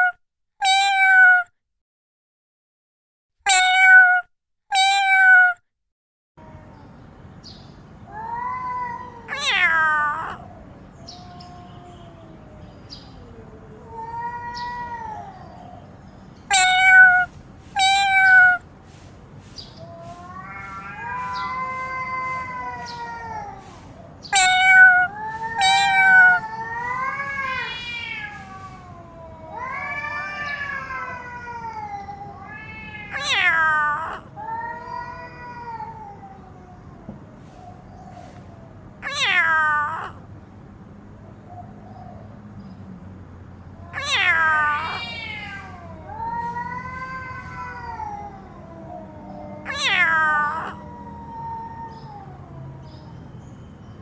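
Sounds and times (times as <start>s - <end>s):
cat meowing: 0.0s - 1.5s, 3.5s - 5.6s, 8.0s - 18.7s, 19.6s - 40.3s, 43.8s - 53.5s.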